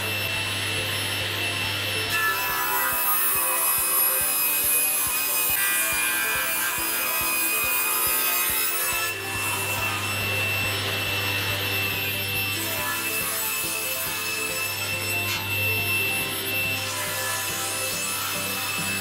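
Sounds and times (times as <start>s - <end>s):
table saw cutting wood: 0.0s - 19.0s.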